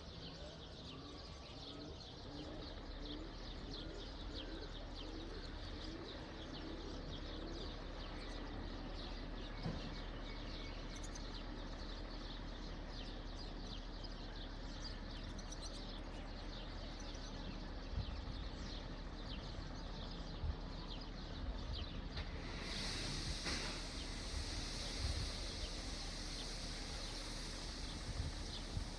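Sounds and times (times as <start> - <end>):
low background rumble: 0.0 - 28.9
small birds chirping: 0.0 - 28.9.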